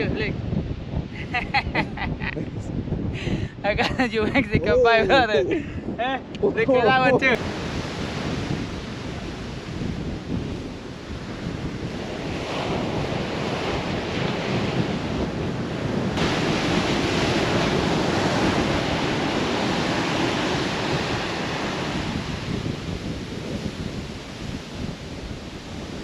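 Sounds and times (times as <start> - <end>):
ocean surf breaking on beach: 0.0 - 26.0
wind buffeting microphone: 0.0 - 26.0.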